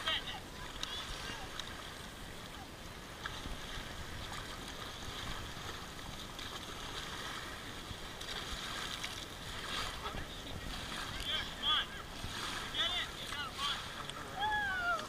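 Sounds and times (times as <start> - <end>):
children splashing in water: 0.0 - 15.0
water lapping at shoreline: 0.0 - 15.0.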